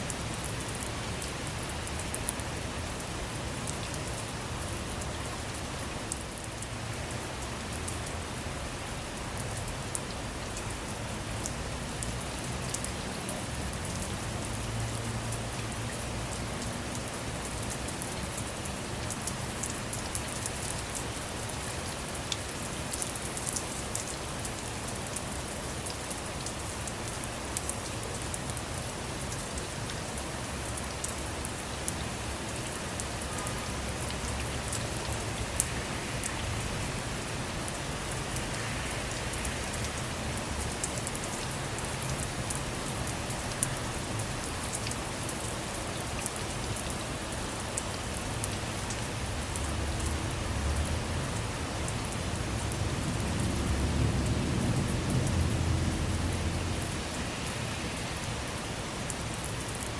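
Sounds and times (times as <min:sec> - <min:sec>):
rain drops ticking on a car: 0:00.0 - 0:59.9.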